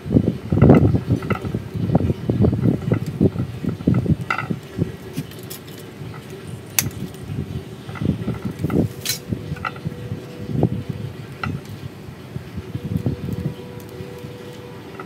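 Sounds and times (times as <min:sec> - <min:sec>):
rustling and scraping of handling: 0:00.4 - 0:15.0.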